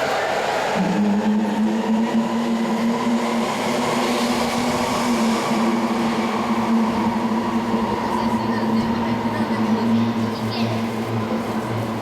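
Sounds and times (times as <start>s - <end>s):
train electric hum: 0.0s - 12.0s.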